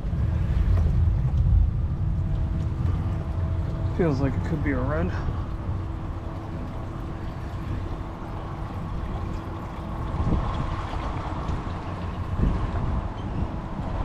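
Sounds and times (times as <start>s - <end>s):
low thumps: 0.0s - 11.7s
water sloshing around kayak: 0.0s - 13.1s
faint steady hum: 0.0s - 14.0s
wind buffeting microphone: 0.0s - 14.0s.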